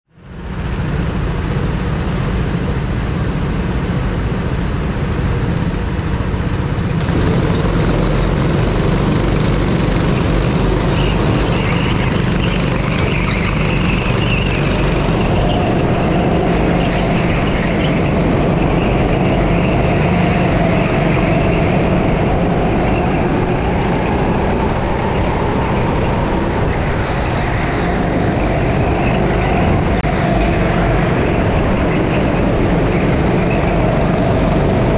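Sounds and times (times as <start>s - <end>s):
go-kart engine revving: 4.3s - 34.9s.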